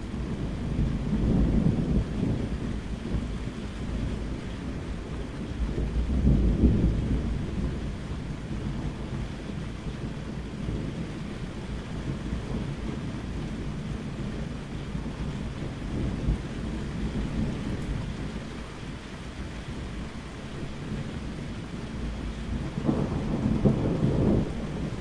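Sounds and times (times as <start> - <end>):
low thunder rumbling: 0.0 - 25.0
steady rain falling: 0.0 - 25.0.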